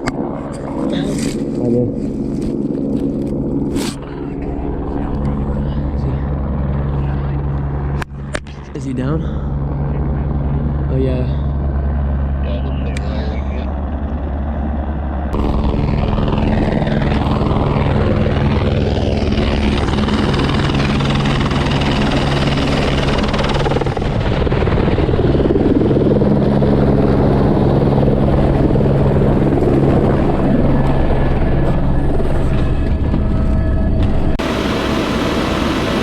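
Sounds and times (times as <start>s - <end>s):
helicopter rotor and engine drone: 0.0s - 36.0s.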